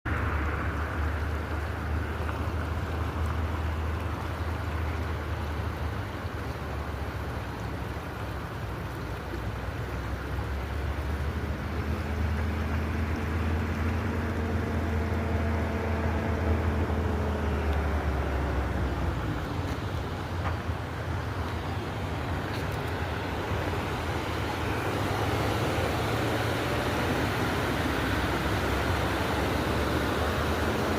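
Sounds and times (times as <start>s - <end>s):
river water rushing: 0.1s - 30.9s.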